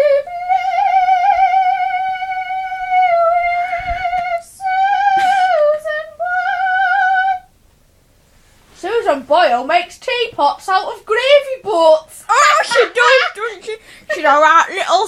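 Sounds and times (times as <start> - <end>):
girl singing with vibrato: 0.0 - 7.6, 8.8 - 15.0.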